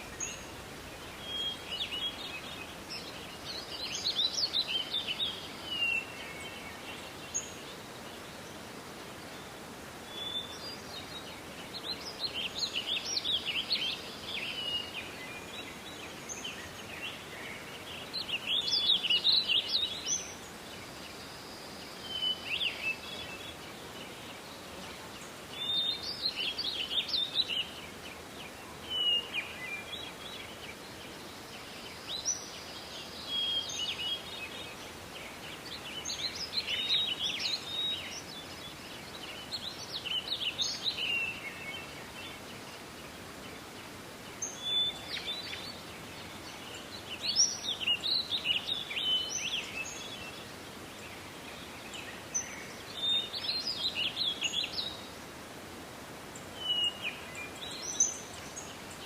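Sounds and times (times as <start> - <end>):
background hiss: 0.0 - 59.0
songbirds chirping: 0.0 - 59.0.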